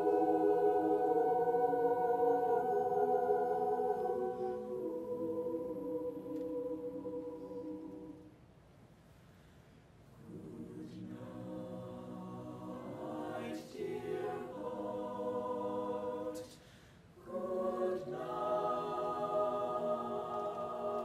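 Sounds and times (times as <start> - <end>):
mixed choir singing held chords: 0.0 - 8.4, 10.2 - 21.0.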